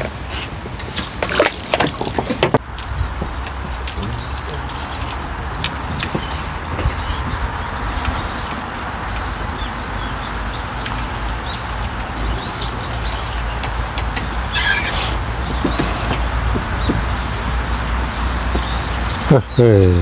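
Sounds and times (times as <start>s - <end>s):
small birds chirping: 2.3s - 20.0s.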